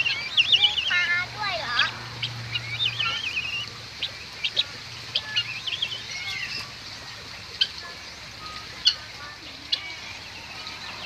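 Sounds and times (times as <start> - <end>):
birds chirping and trilling: 0.0 - 11.0.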